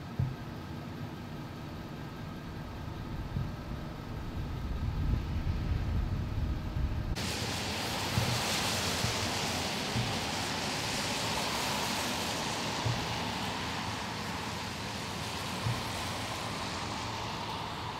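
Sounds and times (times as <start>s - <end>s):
idling vehicles rumbling: 0.0s - 17.9s
wind: 0.0s - 17.9s
heavy storm rain: 0.7s - 17.9s.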